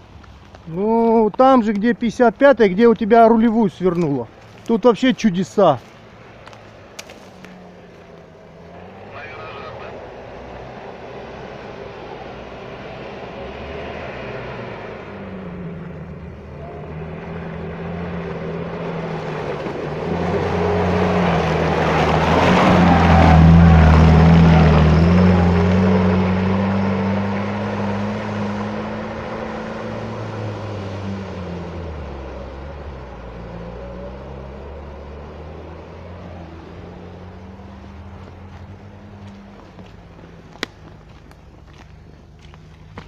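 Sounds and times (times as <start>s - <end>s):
tyres churning through mud: 0.0s - 43.0s
off-road engine revving: 0.7s - 43.0s.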